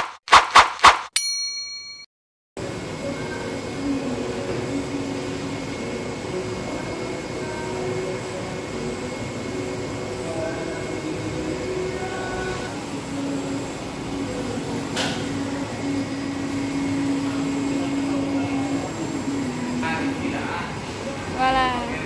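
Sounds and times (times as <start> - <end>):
printer mechanical hum: 2.6 - 21.4
motor whine shifting pitch: 2.7 - 22.0.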